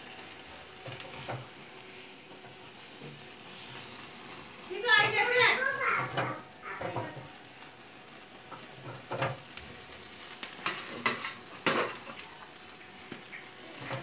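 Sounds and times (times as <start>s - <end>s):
chicken sizzling on grill: 0.0s - 14.0s.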